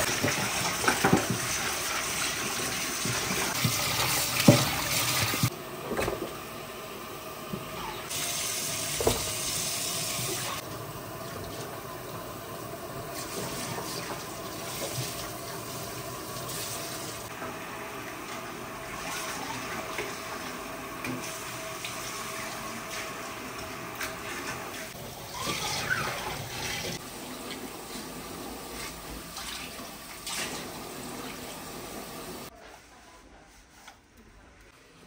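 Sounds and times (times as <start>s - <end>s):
tap water running: 0.0s - 32.5s.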